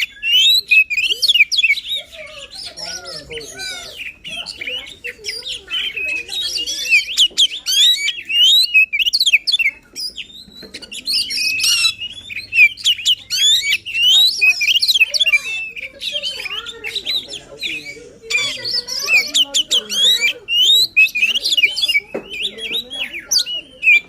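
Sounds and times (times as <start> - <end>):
bird singing: 0.0 - 24.0.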